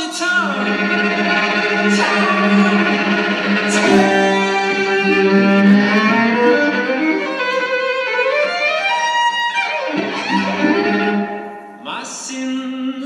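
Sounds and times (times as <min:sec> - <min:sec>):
violin melody: 0:00.2 - 0:11.8.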